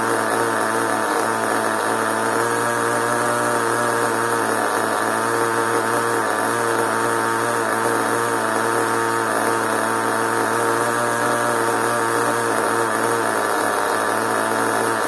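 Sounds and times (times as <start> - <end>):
small nitro engine running: 0.0 - 15.0.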